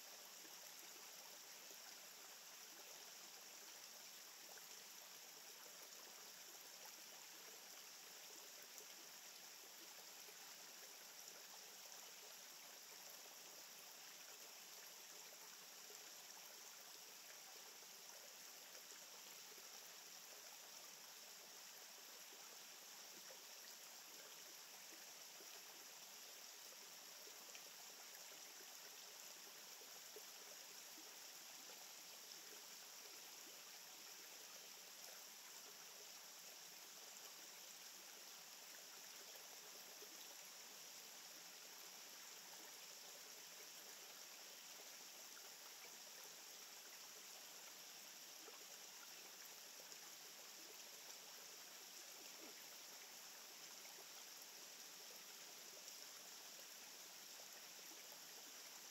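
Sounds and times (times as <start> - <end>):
outdoor ambience hiss: 0.0 - 58.9.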